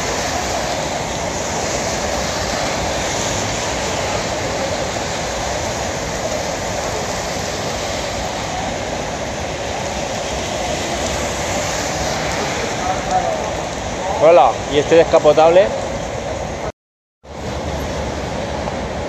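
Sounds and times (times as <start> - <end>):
heavy rain on a street: 0.0 - 19.0
tyres on wet road: 0.0 - 19.0.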